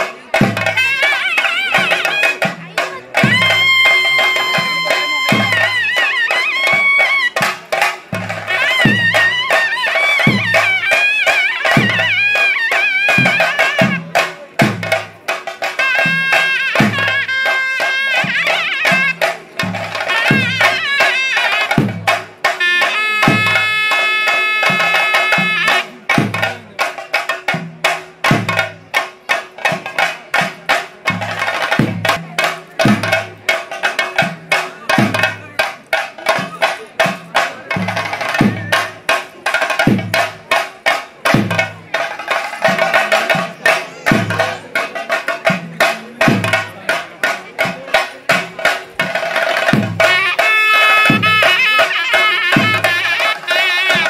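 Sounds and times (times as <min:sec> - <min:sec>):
drums beaten in steady rhythm: 0:00.0 - 0:54.0.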